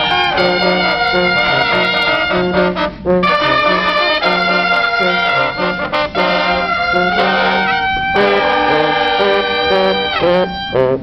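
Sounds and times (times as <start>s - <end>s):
brass horns playing melody: 0.0s - 11.0s.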